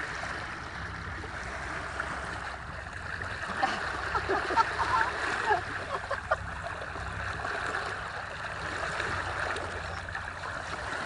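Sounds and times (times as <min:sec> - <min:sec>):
splashes and gurgles: 0:00.0 - 0:11.0
water rushing along hull: 0:00.0 - 0:11.0.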